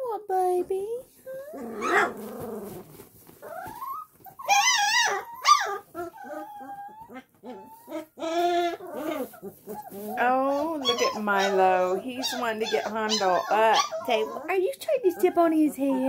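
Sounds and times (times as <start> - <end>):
puppy wavering cry: 1.2 - 2.8, 3.4 - 16.0
puppies whining and squealing: 1.2 - 16.0.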